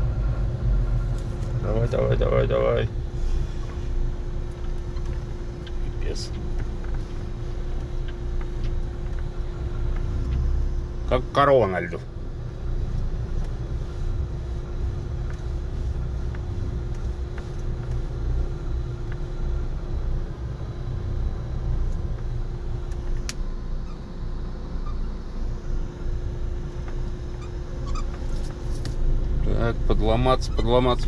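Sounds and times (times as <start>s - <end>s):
diesel truck engine rumbling: 0.0s - 31.0s
faint steady hum: 0.0s - 31.0s.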